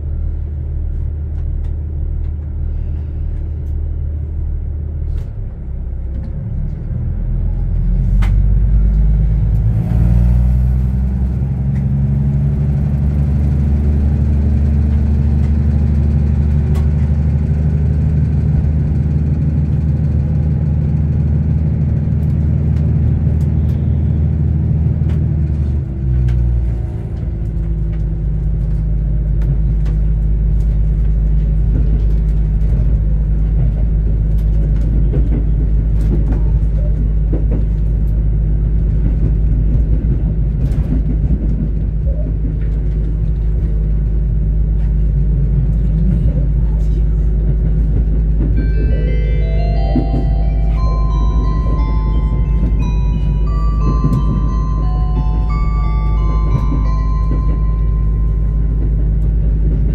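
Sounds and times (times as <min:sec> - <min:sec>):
diesel railcar engine revving: 0:00.0 - 0:59.9.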